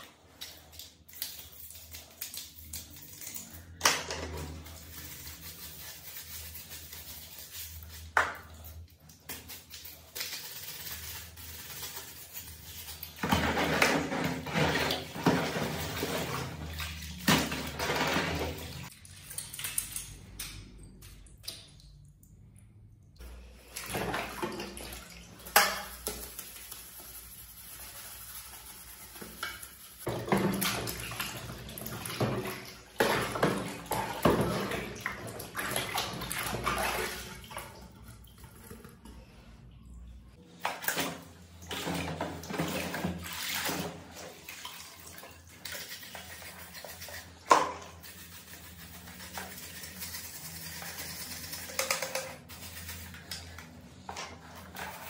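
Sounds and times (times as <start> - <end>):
splashing and swishing water: 4.4 - 20.4, 23.3 - 26.6, 30.0 - 55.0.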